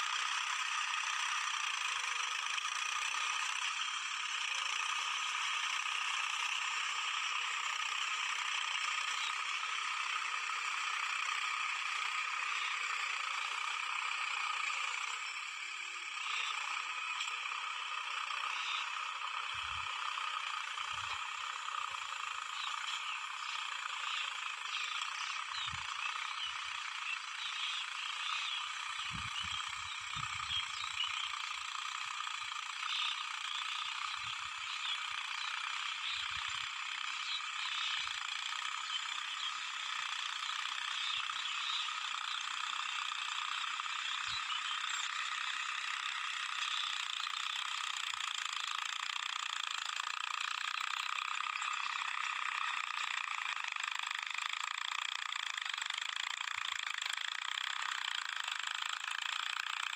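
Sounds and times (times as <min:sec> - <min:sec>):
tractor diesel engine clattering: 0:00.0 - 0:59.9.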